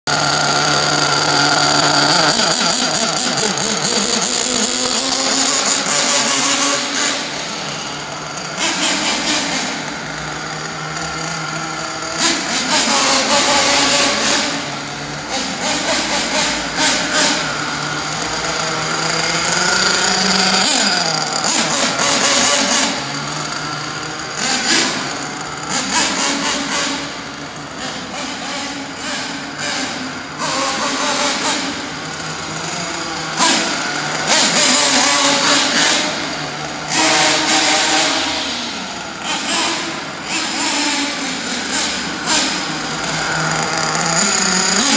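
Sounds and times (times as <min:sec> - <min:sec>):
rc car nitro engine revving: 0:00.1 - 0:44.9.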